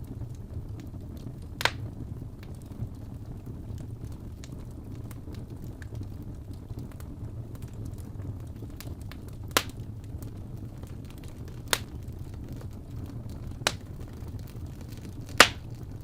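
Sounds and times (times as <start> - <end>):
burning wood popping: 0.0 - 16.0
fire rumbling with faint crackling: 0.0 - 16.0.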